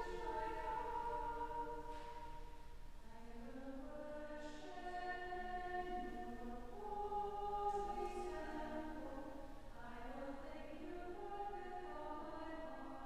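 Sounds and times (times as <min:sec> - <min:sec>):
voices singing a slow hymn: 0:00.0 - 0:13.0.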